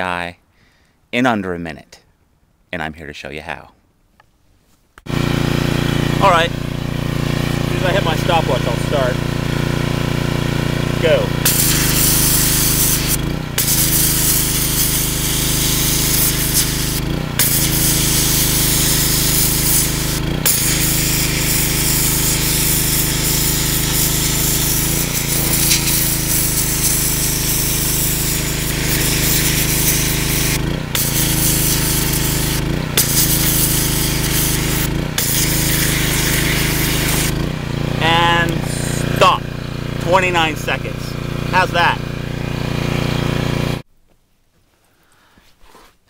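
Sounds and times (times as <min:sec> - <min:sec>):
pressure washer motor hum: 0:05.0 - 0:43.8
pressure washer jet blasting pumpkin: 0:05.1 - 0:43.8.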